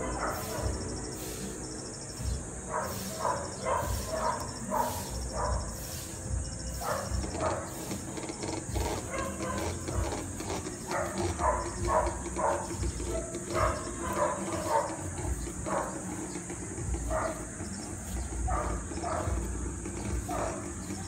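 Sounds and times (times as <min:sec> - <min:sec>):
puppies grunting: 0:00.0 - 0:01.2, 0:02.2 - 0:21.0
high insect buzz: 0:00.0 - 0:21.0.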